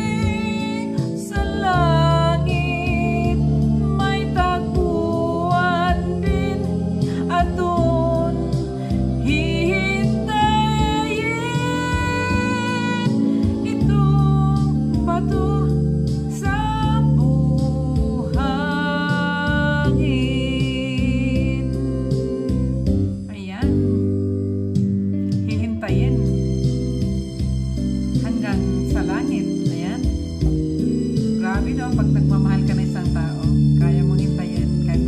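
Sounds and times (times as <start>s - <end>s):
woman singing a love ballad: 0.0s - 24.1s, 25.4s - 26.4s, 28.1s - 30.1s, 31.2s - 35.0s
instrumental backing track: 0.0s - 35.0s.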